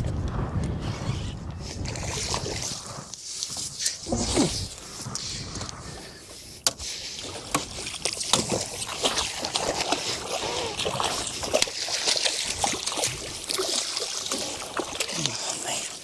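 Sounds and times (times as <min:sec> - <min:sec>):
water splashing around boat: 0:01.6 - 0:05.6, 0:06.4 - 0:16.0.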